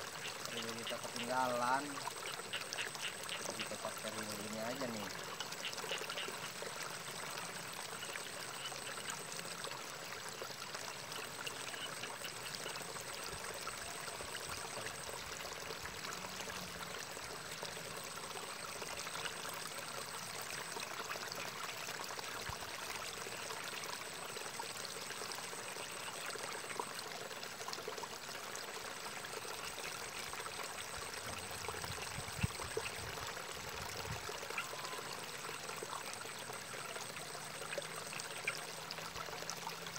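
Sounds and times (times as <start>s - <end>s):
water trickling in a ditch: 0.0s - 39.9s.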